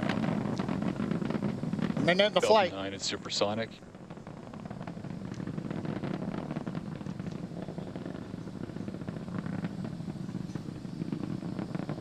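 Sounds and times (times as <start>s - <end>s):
rocket engine rumble with crackling: 0.0s - 12.0s.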